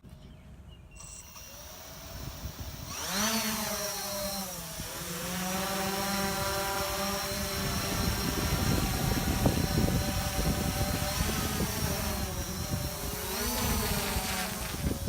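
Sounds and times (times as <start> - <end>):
toy aircraft rotors buzzing: 1.0 - 15.0.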